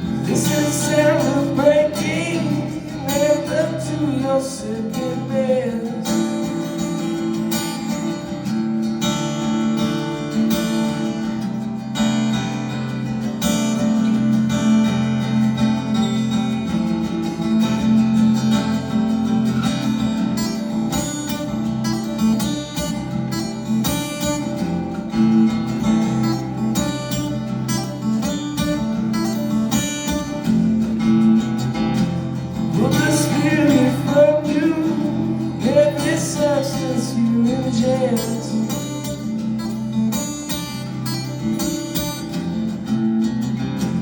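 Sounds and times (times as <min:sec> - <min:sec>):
acoustic guitar strumming chords: 0:00.0 - 0:44.0.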